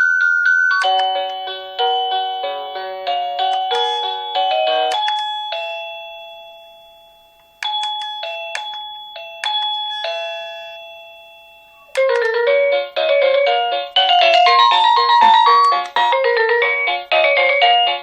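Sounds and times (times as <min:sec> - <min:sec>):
electronic doorbell chime melody: 0:00.0 - 0:18.0.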